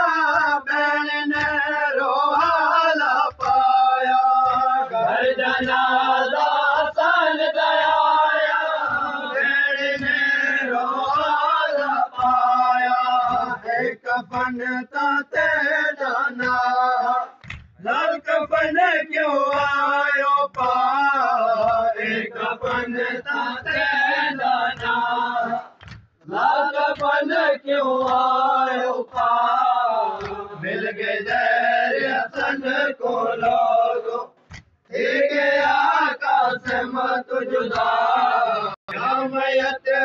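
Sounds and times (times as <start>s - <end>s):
men chanting a lament: 0.0s - 40.0s.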